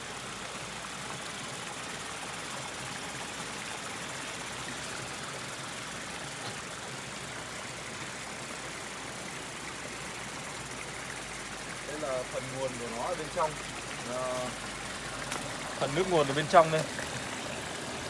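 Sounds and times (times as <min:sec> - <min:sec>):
spring water running: 0:00.0 - 0:18.0.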